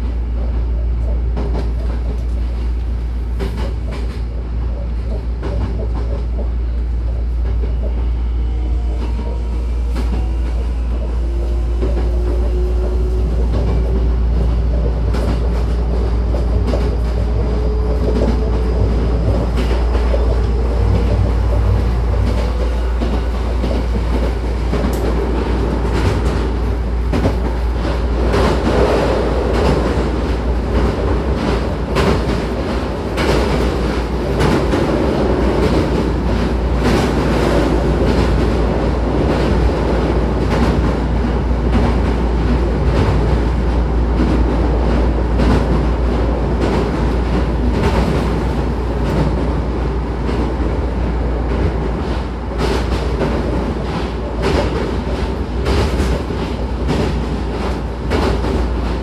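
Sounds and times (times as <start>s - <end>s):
train cabin rumble: 0.0s - 59.0s.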